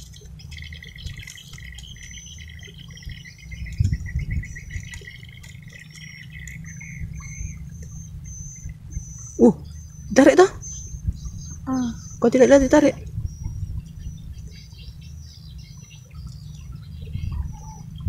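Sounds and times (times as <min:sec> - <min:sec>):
small animals chirping and trilling: 0:00.0 - 0:18.0
steady low rumble: 0:00.0 - 0:18.0.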